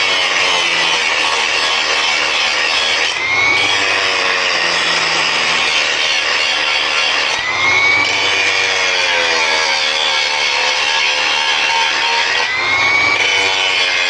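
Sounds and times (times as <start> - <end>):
angle grinder grinding: 0.0 - 14.0.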